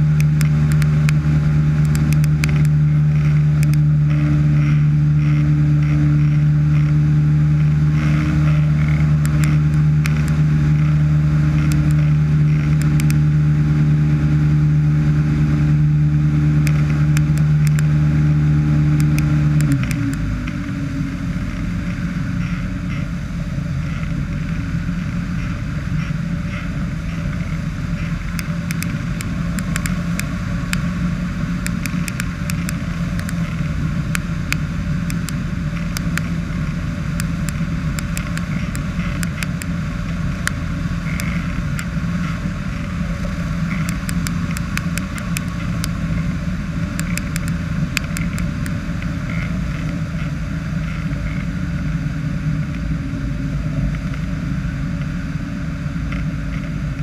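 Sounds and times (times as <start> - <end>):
ultralight engine and propeller: 0.0 - 57.0.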